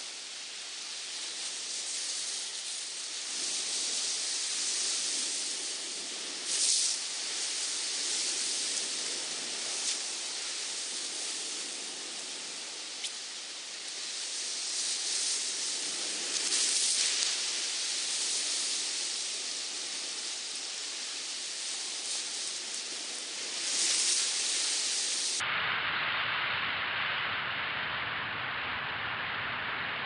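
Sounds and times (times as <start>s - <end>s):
surf washing over rocks: 0.0s - 25.4s.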